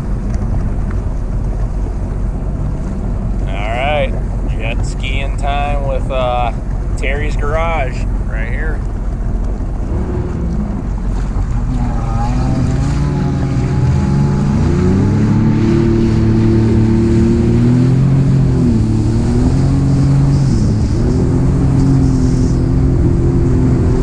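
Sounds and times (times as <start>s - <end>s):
jet ski engine accelerating: 0.0s - 24.0s
wind noise on microphone: 0.0s - 24.0s.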